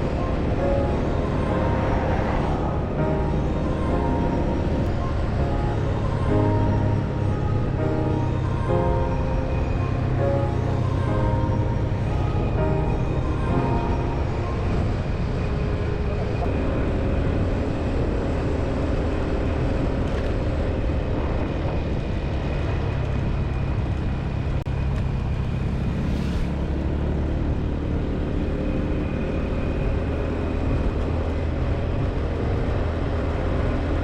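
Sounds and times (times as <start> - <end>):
road and air noise: 0.0 - 34.0.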